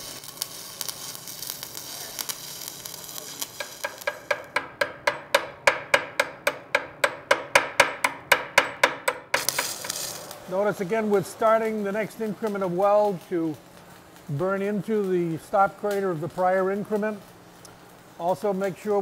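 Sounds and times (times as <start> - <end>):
welding arc crackling hiss: 0.0 - 19.0.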